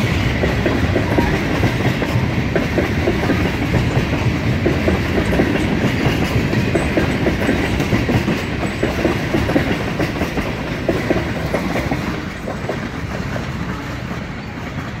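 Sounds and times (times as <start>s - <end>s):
freight train rumble: 0.0s - 15.0s
wheels clacking over rail joints: 0.0s - 15.0s.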